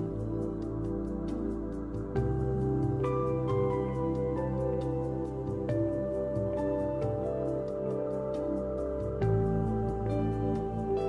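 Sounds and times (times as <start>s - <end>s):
light percussion beat: 0.0s - 11.0s.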